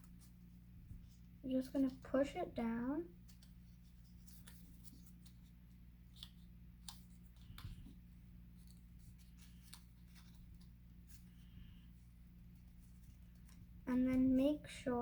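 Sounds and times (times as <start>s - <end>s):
paper crinkling while folded: 0.0s - 15.0s.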